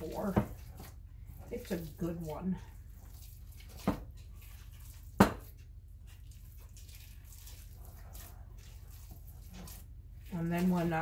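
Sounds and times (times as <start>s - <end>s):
hands squishing meat mixture: 0.0s - 11.0s.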